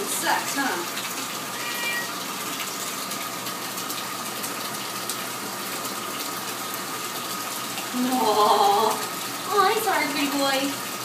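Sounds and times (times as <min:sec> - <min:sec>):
bathtub tap running: 0:00.0 - 0:11.0.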